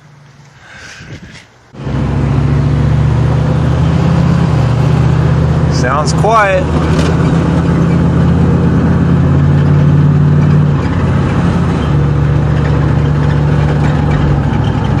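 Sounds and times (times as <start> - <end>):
van engine low exhaust note: 1.7 - 15.0.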